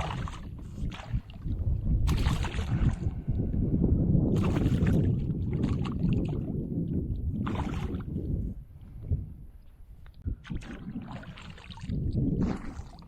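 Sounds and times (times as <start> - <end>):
water and hull rumble: 0.0 - 13.0.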